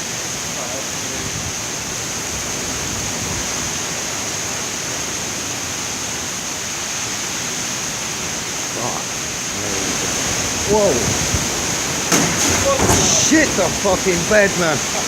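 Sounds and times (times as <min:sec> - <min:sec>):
hurricane wind blowing: 0:00.0 - 0:15.0.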